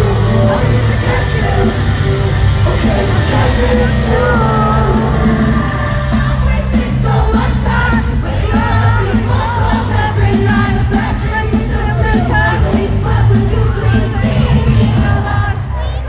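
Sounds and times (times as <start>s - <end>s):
heavy bass: 0.0s - 16.0s
live rock music: 0.0s - 16.0s
person singing: 0.0s - 16.0s.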